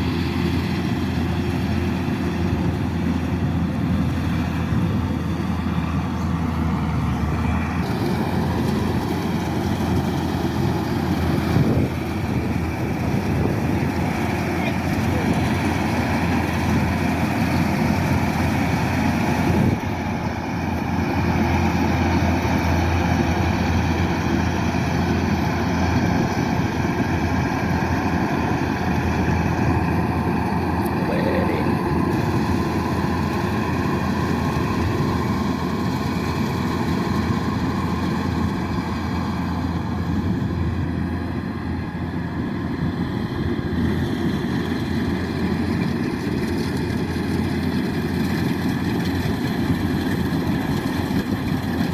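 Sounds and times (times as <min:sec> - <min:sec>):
diesel engine drone: 0:00.0 - 0:51.9.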